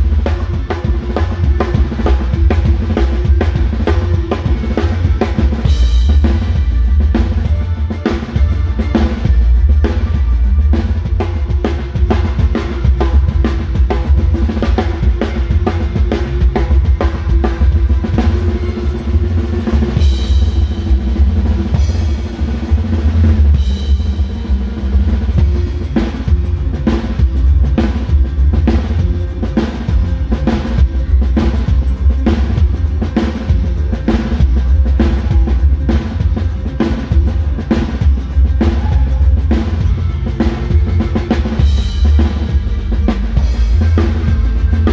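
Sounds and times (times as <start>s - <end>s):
band music: 0.0s - 44.9s
cymbals: 0.0s - 44.9s.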